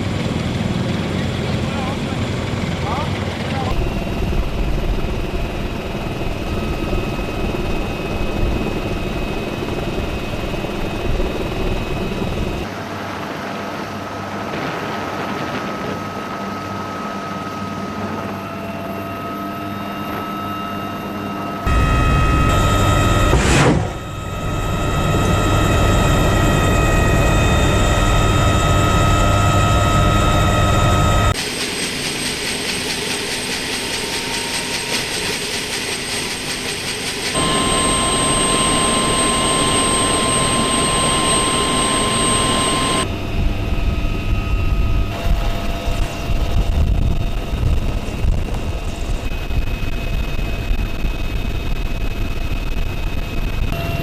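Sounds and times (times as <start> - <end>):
helicopter engines and rotor: 0.0 - 54.0.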